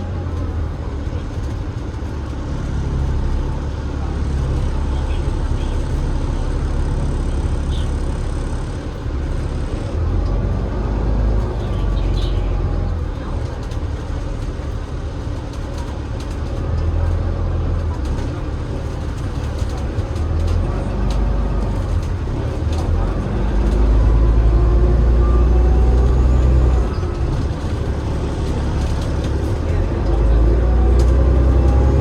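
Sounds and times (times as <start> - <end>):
diesel bus engine rumbling: 0.0 - 32.0.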